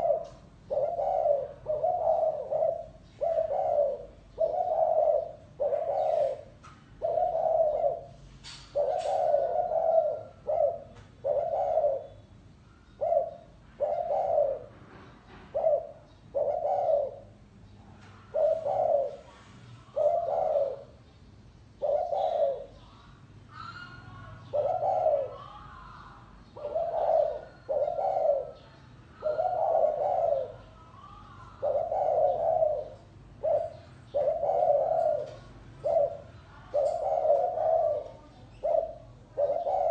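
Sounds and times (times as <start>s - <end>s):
dove cooing: 0.0s - 14.8s, 15.5s - 17.4s, 18.2s - 21.0s, 21.7s - 39.9s
small birds twittering: 0.0s - 39.9s.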